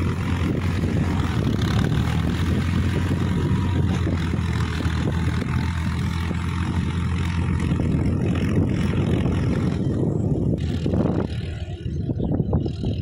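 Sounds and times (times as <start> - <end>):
tiller churning mud: 0.0 - 13.0
tractor diesel engine: 0.0 - 13.0.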